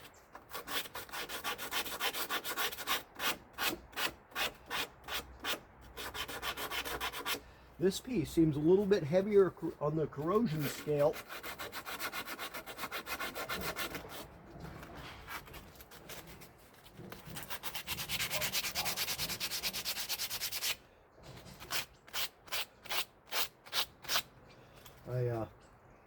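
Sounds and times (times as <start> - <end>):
scrubbing on rusty metal: 0.0 - 24.3.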